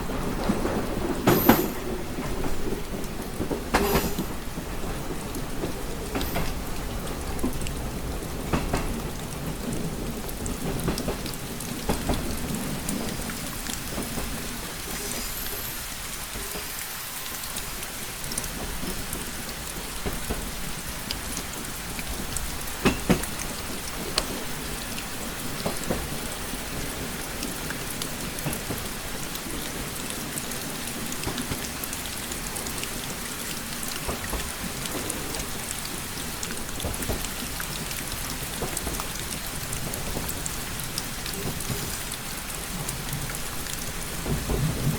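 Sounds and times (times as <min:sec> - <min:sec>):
rain pattering on window glass: 0:00.0 - 0:44.9.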